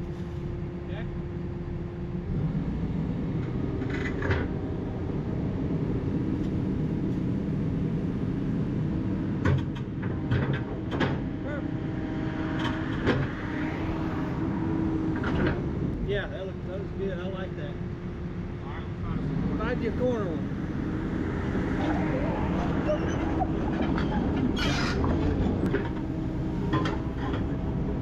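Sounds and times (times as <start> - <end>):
excavator engine rumble: 0.0 - 28.0.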